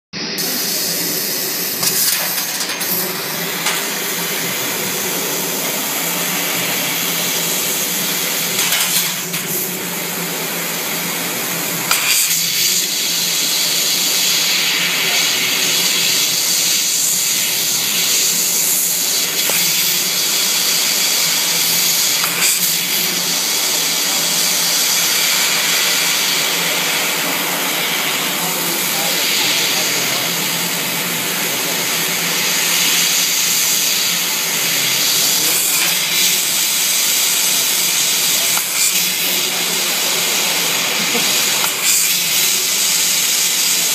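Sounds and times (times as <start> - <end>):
laser cutter hissing: 0.2 - 43.9.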